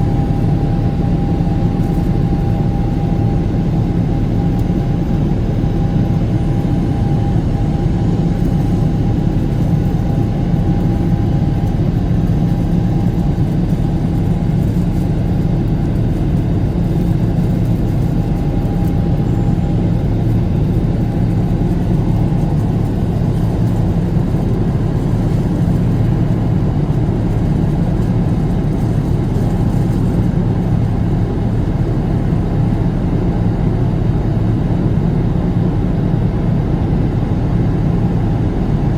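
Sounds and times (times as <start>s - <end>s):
jet engine and airflow drone: 0.0s - 38.9s.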